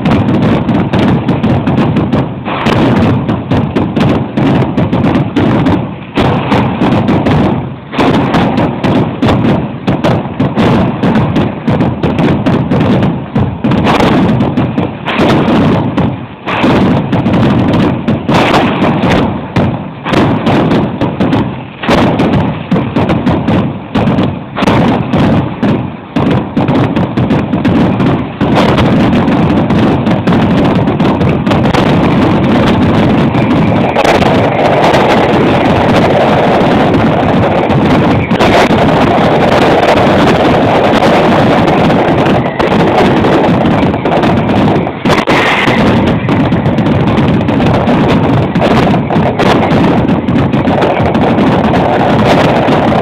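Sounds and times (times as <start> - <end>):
fireworks exploding: 0.0 - 53.0.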